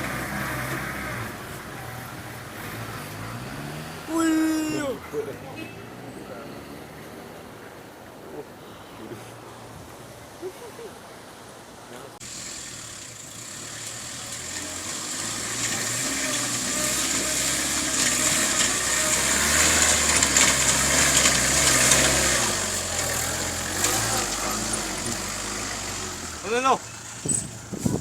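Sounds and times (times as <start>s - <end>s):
jeep engine running under load: 0.0s - 7.0s, 12.2s - 28.0s.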